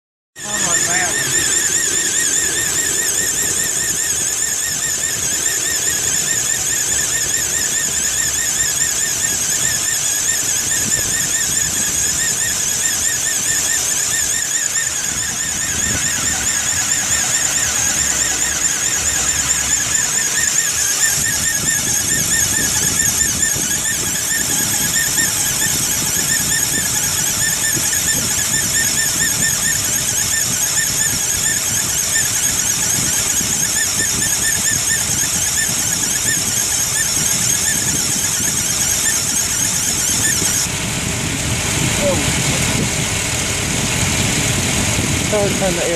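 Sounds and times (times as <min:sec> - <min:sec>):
high-pitched engine squeal: 0:00.4 - 0:45.9.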